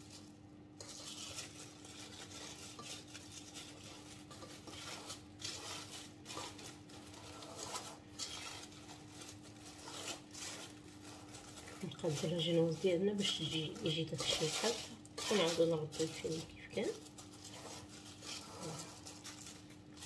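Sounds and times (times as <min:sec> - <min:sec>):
plastic film crinkling: 0:00.0 - 0:20.0.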